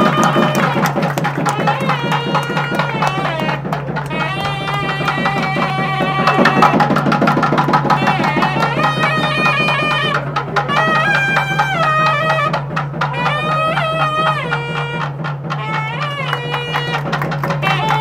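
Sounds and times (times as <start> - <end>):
rapid hand-drum strokes: 0.0 - 18.0.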